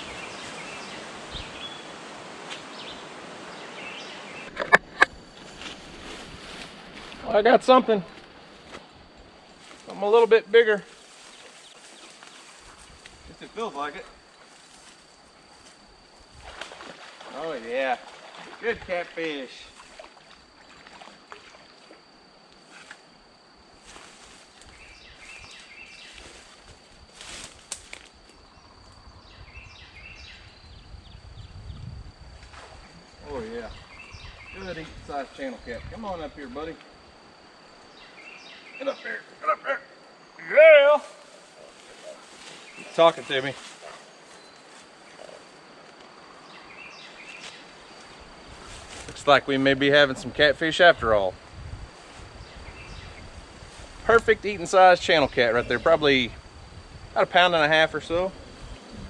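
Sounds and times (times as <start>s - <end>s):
creekside ambience: 0.0s - 59.0s
insect hum: 0.0s - 59.0s.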